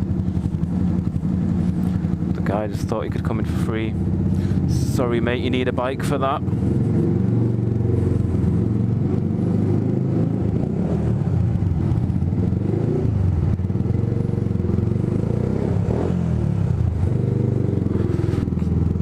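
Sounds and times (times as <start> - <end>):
motorcycle engine deep exhaust: 0.0 - 19.0.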